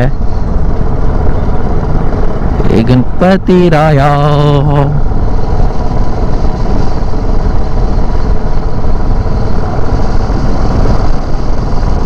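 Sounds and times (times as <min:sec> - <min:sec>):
motorcycle engine running: 0:00.0 - 0:12.0
wind rushing on microphone: 0:00.0 - 0:12.0.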